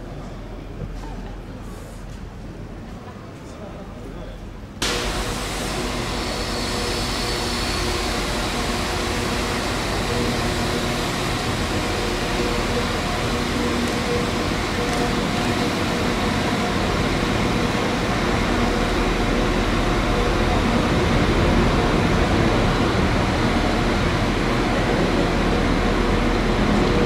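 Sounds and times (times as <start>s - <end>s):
idling train hum and rumble: 4.0s - 27.0s.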